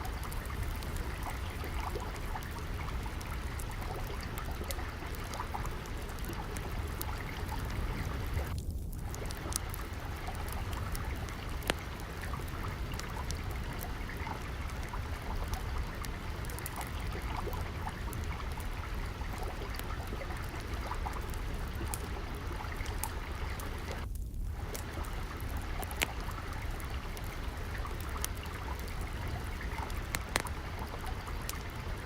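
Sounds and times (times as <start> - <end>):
water trickling: 0.0 - 32.0
wood fire crackling: 0.0 - 32.0.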